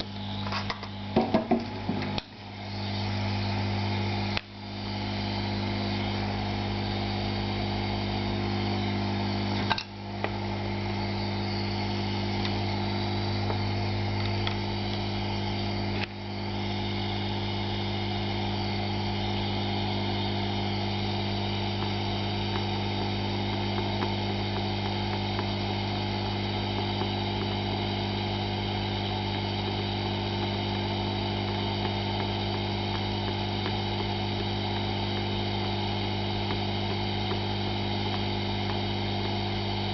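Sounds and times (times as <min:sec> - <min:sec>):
air pump mains hum: 0:00.0 - 0:39.9.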